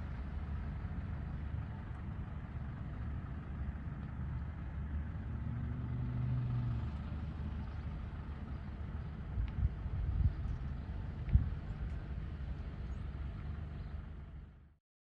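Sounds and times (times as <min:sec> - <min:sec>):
distant road traffic rumble: 0:00.0 - 0:14.8
vehicle engine hum: 0:00.0 - 0:14.8.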